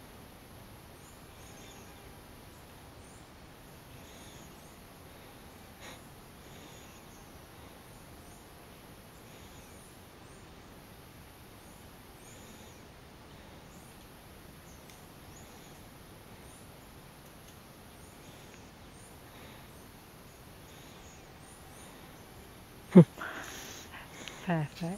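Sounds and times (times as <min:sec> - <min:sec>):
steady hiss: 0:00.0 - 0:24.9.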